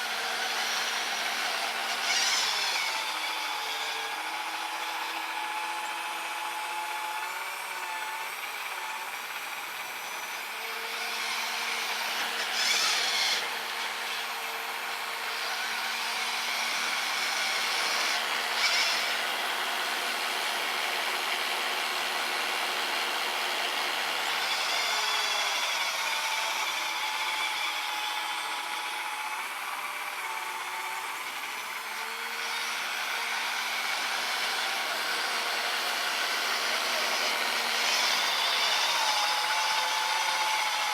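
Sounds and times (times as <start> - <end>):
small electric motors whining: 0.0 - 40.9.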